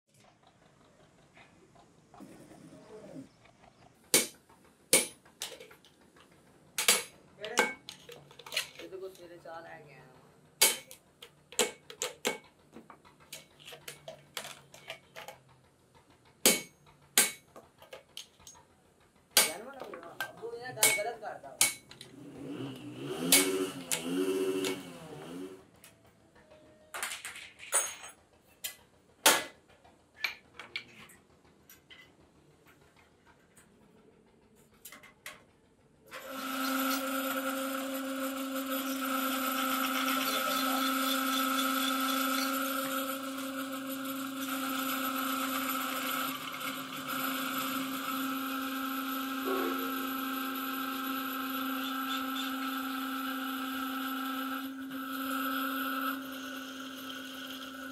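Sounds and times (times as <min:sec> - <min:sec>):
drill press whirring: 0:10.2 - 0:26.9, 0:28.2 - 0:57.9.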